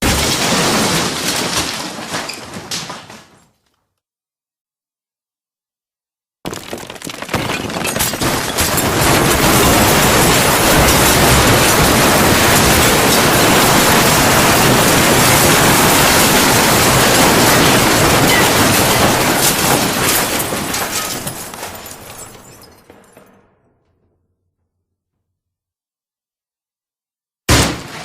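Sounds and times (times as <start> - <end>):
crashing clatter: 0.0 - 3.8, 6.5 - 24.9, 27.5 - 28.0.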